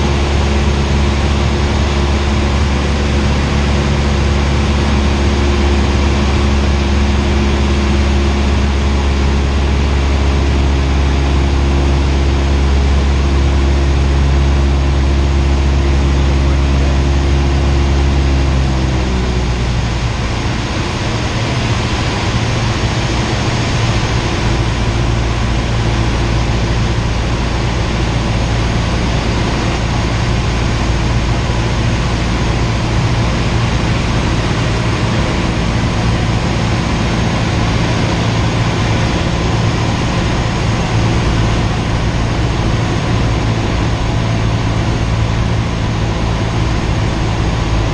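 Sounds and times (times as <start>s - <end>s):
airplane engine and propeller drone: 0.0s - 47.9s.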